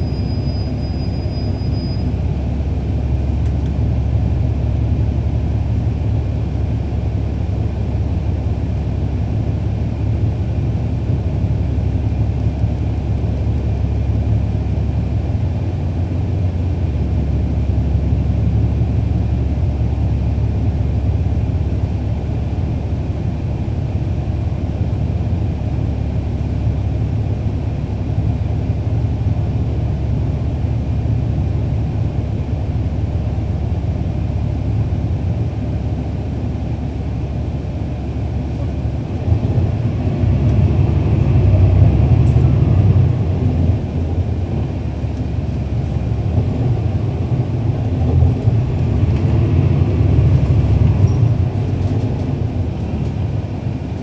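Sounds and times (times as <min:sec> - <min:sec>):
bus diesel engine rumble: 0:00.0 - 0:54.0
road noise: 0:00.0 - 0:54.0.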